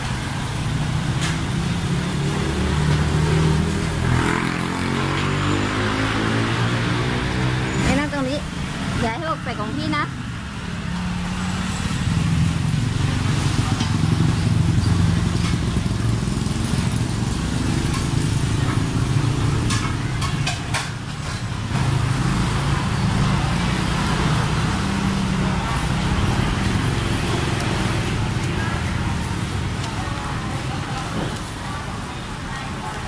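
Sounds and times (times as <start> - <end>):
street noise: 0.0 - 33.0.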